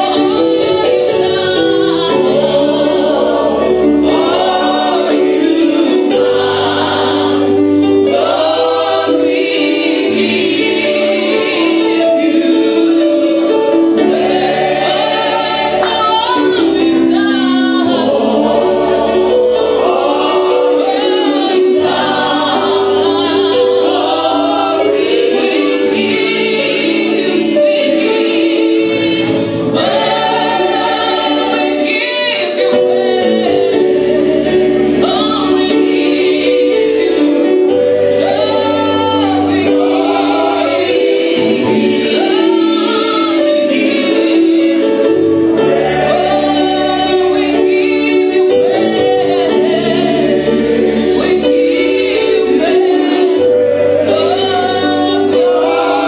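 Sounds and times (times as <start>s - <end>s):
women singing gospel song: 0.0s - 56.0s.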